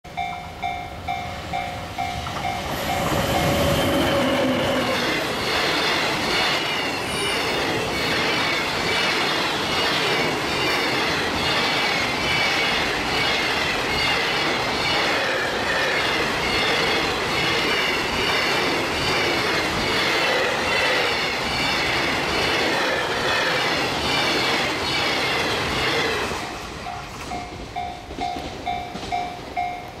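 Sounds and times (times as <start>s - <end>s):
electric locomotive passing: 0.1s - 30.0s
train wheels rhythmic beat: 0.1s - 30.0s.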